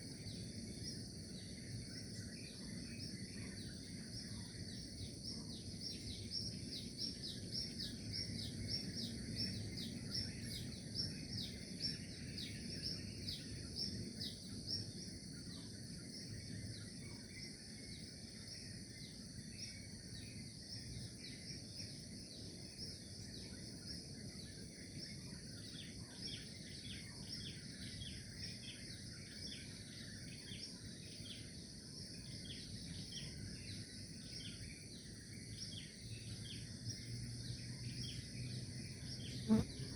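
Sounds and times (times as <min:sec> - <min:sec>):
high insect drone: 0:00.0 - 0:39.9
low outdoor background noise: 0:00.0 - 0:39.9
songbirds chirping: 0:00.0 - 0:39.9.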